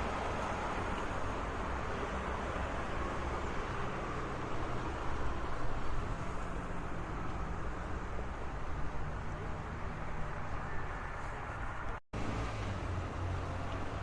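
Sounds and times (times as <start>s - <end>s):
road traffic rumble and hiss: 0.0s - 14.0s.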